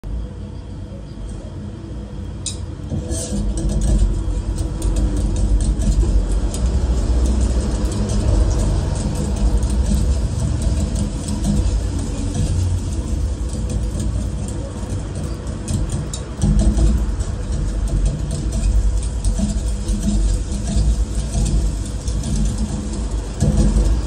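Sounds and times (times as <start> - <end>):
steady low rumble: 0.0 - 24.0
batter sizzling on a griddle: 2.9 - 24.0.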